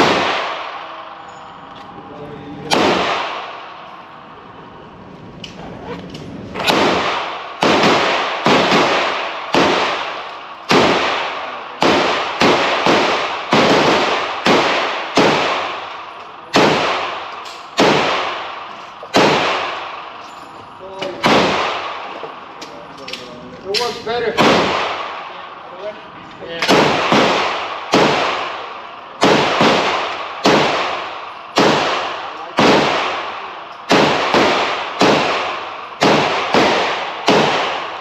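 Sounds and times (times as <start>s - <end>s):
gunshots with long echo: 0.0s - 1.2s, 2.6s - 4.2s, 6.6s - 20.2s, 21.1s - 22.4s, 23.8s - 25.6s, 26.6s - 38.0s.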